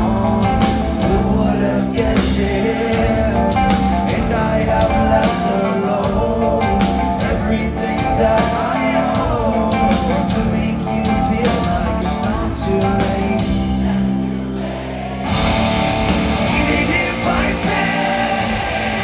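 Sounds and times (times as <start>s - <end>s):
drums: 0.0s - 19.0s
electric guitars: 0.0s - 19.0s
live rock band: 0.0s - 19.0s
person singing: 0.0s - 19.0s.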